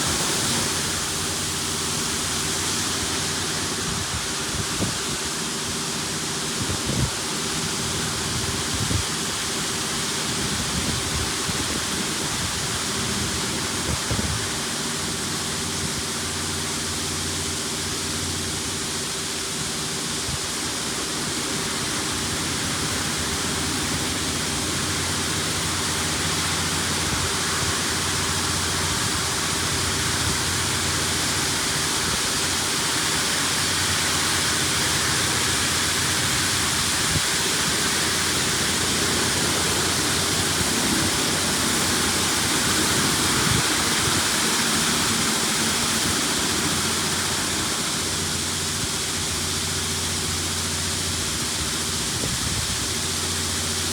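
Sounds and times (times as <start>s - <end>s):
car wash spraying water: 0.0s - 53.9s.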